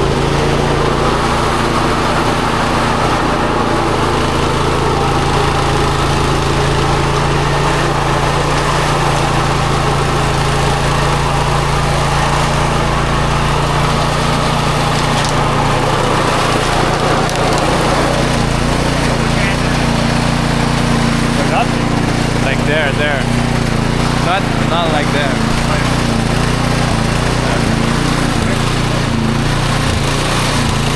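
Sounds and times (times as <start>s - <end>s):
snowblower engine running: 0.0s - 30.9s.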